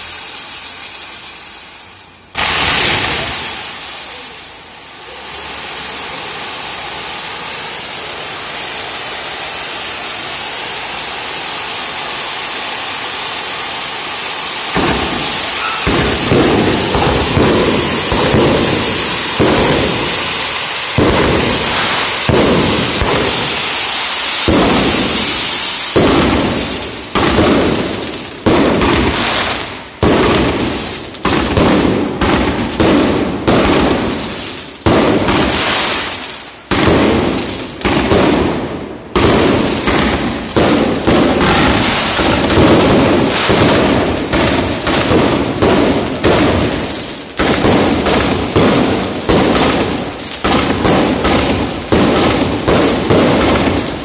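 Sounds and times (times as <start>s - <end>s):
hiss of firework sparks: 0.0s - 38.6s, 39.2s - 54.0s
aerial fireworks bursting: 0.0s - 54.0s
firework bangs: 0.0s - 54.0s.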